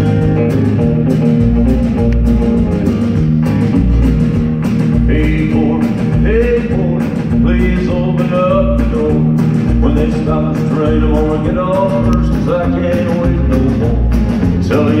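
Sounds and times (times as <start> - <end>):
acoustic rhythm guitar: 0.0 - 15.0
drums: 0.0 - 15.0
electric bass: 0.0 - 15.0
electric lead guitar: 0.0 - 15.0.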